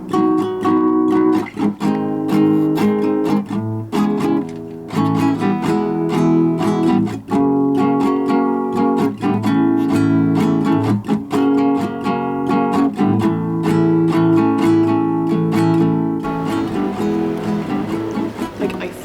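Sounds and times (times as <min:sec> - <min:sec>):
strummed acoustic guitar music: 0:00.0 - 0:19.0.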